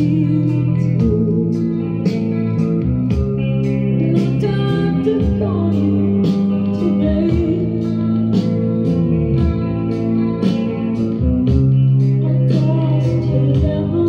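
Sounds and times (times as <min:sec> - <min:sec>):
guitar-led music over loudspeakers: 0:00.0 - 0:14.0.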